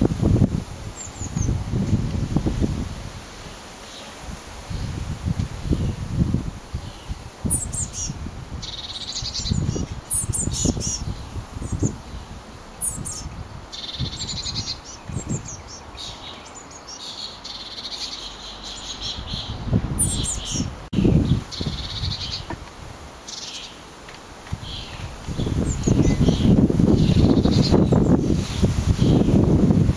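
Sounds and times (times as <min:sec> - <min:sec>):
wind buffeting microphone: 0:00.0 - 0:03.6, 0:04.2 - 0:16.3, 0:19.1 - 0:23.2, 0:24.4 - 0:29.9
birds chirping and trilling: 0:00.9 - 0:02.6, 0:03.4 - 0:05.0, 0:05.6 - 0:06.1, 0:06.7 - 0:22.6, 0:23.2 - 0:23.9, 0:24.6 - 0:29.5.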